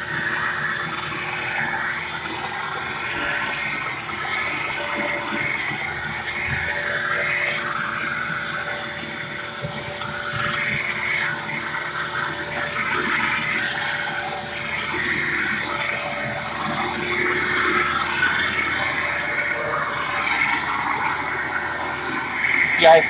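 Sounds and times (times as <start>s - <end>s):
vacuum cleaner motor running: 0.0s - 23.0s.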